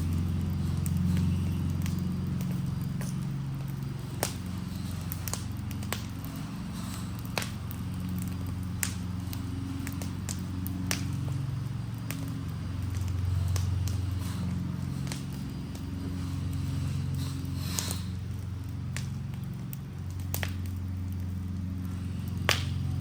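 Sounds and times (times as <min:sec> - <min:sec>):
burning chair crackling: 0:00.0 - 0:23.0
low fire rumble: 0:00.0 - 0:23.0
sharp fire pops: 0:00.0 - 0:23.0.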